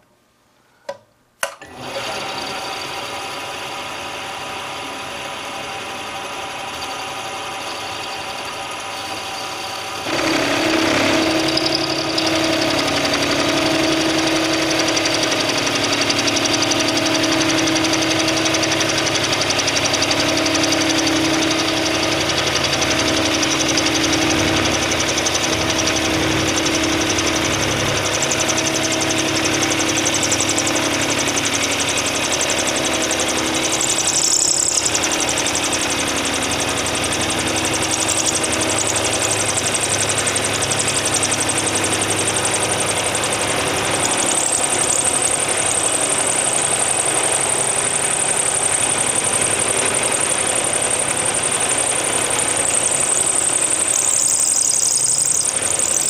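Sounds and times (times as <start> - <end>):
milling machine spindle running: 1.7 - 56.0
end mill cutting metal droning: 1.8 - 56.0.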